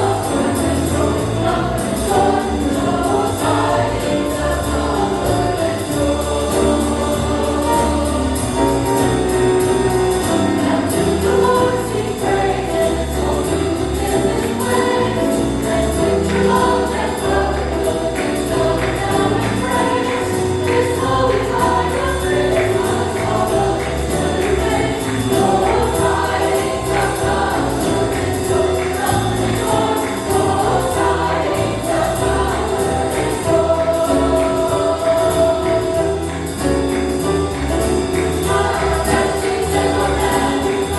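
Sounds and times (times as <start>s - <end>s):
choir singing jazz christmas song: 0.0s - 40.9s
instrumental accompaniment: 0.0s - 40.9s.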